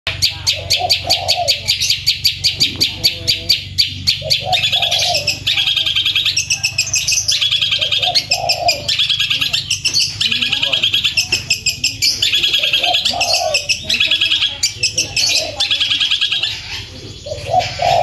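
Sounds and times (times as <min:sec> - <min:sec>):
shrike singing: 0:00.1 - 0:18.0.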